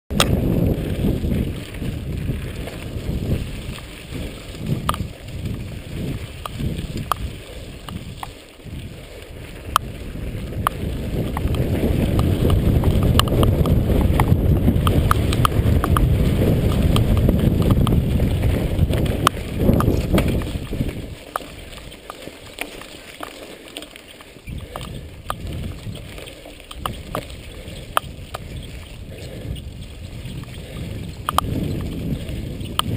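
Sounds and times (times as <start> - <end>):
wind rushing over microphone: 0.1 - 22.0, 24.4 - 32.9
bike rattling clicks: 0.1 - 32.9
tyres rolling on dirt: 0.1 - 32.9.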